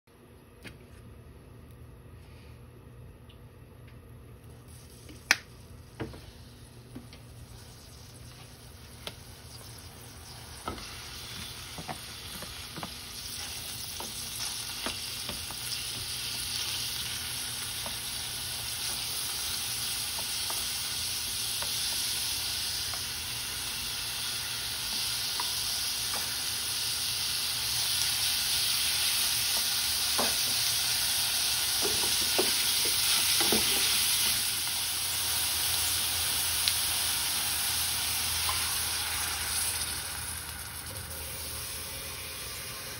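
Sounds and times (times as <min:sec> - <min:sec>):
meat sizzling in a pan: 0:07.4 - 0:42.9.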